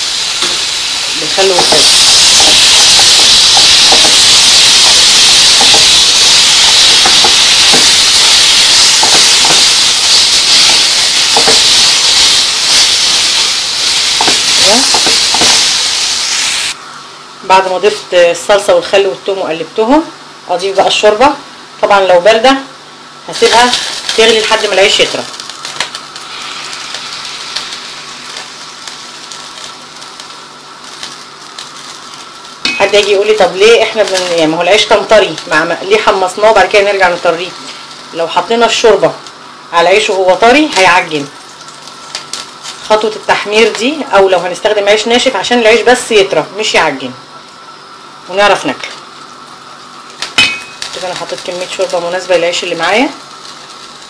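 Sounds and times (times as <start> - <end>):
bread sizzling in a pan: 0.0 - 19.6, 20.2 - 54.0.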